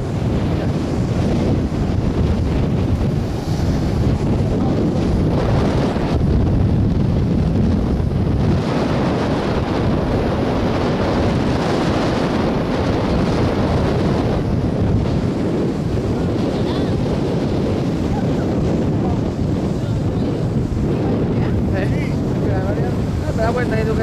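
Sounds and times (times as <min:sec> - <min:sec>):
breaking surf: 0:00.0 - 0:24.0
wind buffeting microphone: 0:00.0 - 0:24.0.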